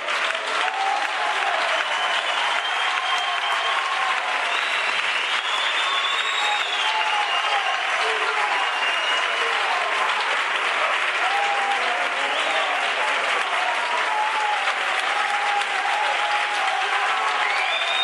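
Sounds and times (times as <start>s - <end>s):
crowd clapping: 0.0s - 18.0s.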